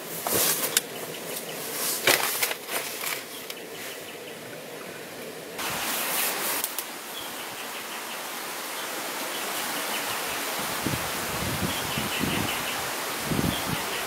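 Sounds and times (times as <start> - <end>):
forest ambience hiss: 0.0 - 14.0.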